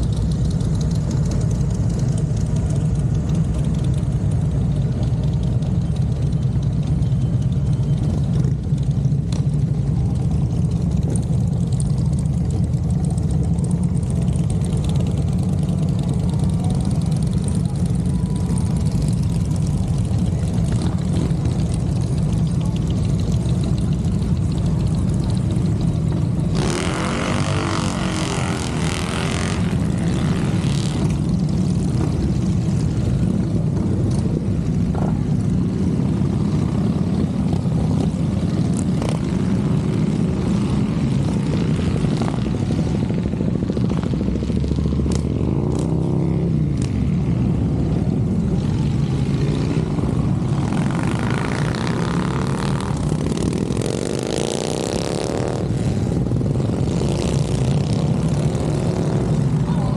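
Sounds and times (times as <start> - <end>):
motorcycle engines rumbling: 0.0 - 59.9.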